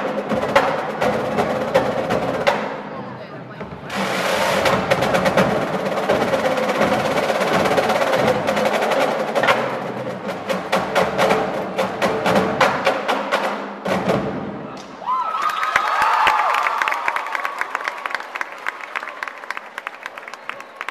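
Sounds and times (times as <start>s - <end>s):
drumline playing rapid rolls: 0.0s - 20.9s.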